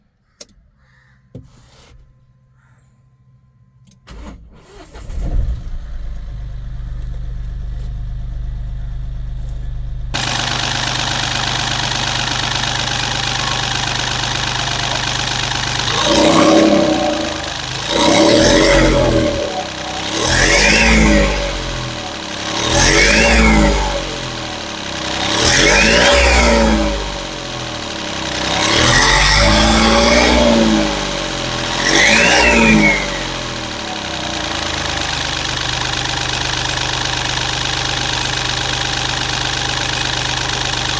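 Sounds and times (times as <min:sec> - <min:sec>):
diesel engine revving: 0:04.1 - 0:40.9
engine idling: 0:04.1 - 0:40.9.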